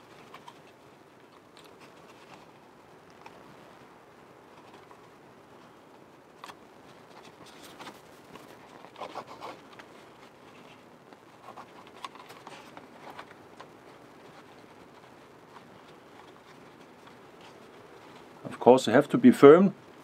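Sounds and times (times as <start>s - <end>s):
bark strip scratching and rustling: 0.0s - 18.5s.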